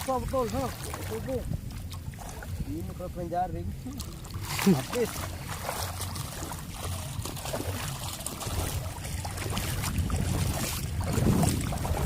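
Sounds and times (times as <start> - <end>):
small splashes: 0.0 - 2.6, 3.8 - 12.0
seawater sloshing and trickling: 0.0 - 12.0
low rumble: 0.7 - 12.0.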